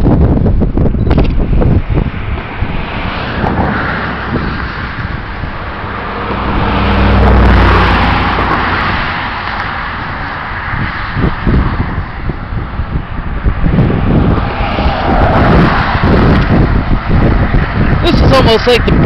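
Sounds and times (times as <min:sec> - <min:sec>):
vehicle passing by: 0:01.7 - 0:18.4.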